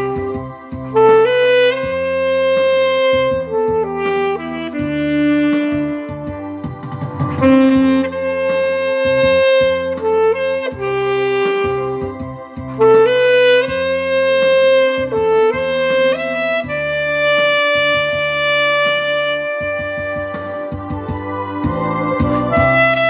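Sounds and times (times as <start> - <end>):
alto saxophone melody: 0.0 - 23.0
recorded accompaniment with bass: 0.0 - 23.0.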